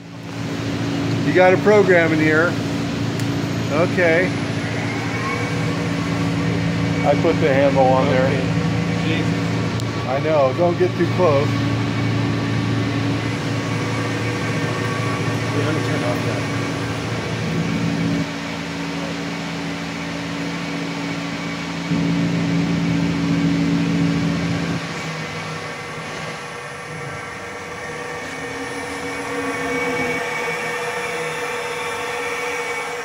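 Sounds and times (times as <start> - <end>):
deeper machine drone: 0.0 - 33.0
mill spindle whine: 0.0 - 33.0.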